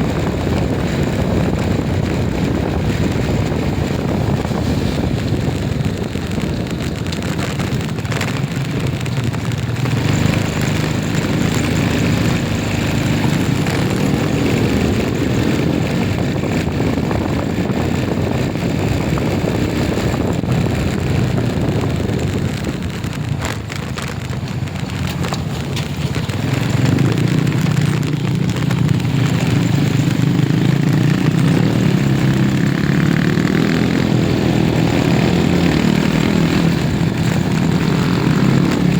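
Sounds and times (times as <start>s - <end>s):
road noise: 0.0s - 38.9s
vehicle engine running: 0.0s - 38.9s.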